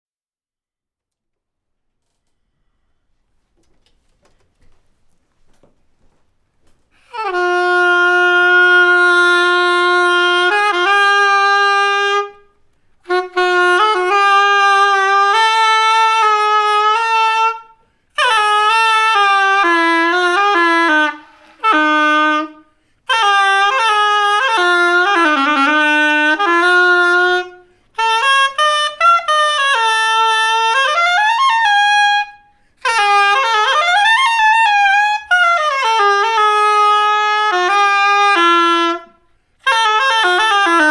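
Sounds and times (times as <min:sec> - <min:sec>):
solo saxophone melody: 0:06.9 - 0:40.9.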